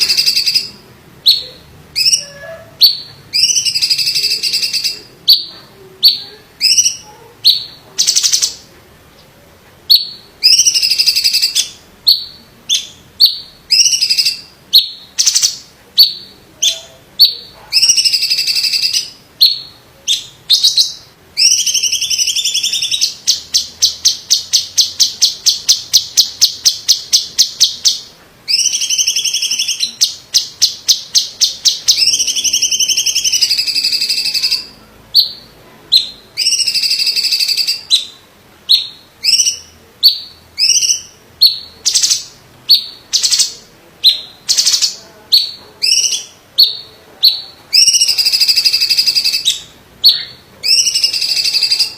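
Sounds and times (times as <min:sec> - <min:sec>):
bird singing: 0:00.0 - 0:08.7, 0:09.9 - 0:51.9.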